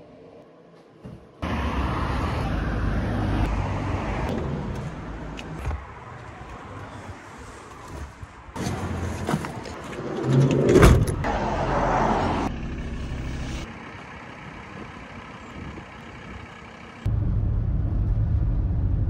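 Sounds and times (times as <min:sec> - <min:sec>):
road traffic: 0:01.4 - 0:19.0.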